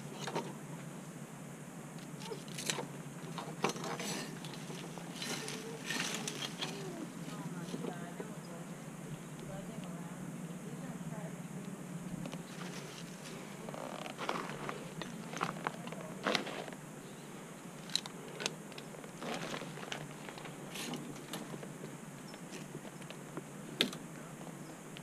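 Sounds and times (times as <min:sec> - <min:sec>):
twigs and leaves rustling: 0:02.0 - 0:10.0, 0:12.1 - 0:24.7.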